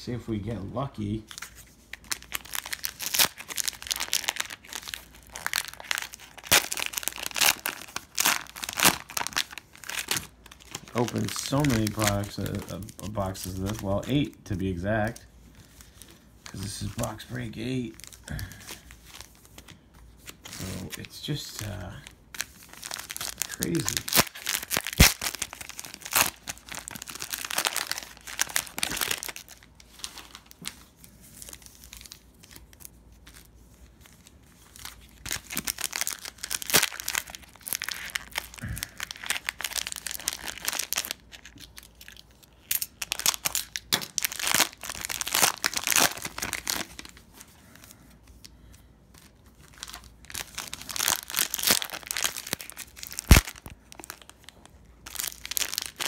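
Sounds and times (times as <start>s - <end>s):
cellophane crinkling and tearing: 0.9s - 48.5s, 49.1s - 56.0s.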